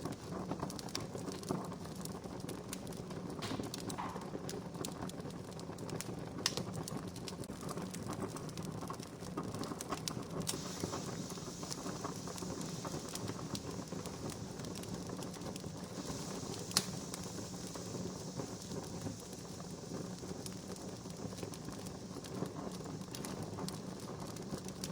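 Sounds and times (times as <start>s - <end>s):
campfire crackling: 0.0s - 24.9s
sharp pops of fire: 0.0s - 24.9s.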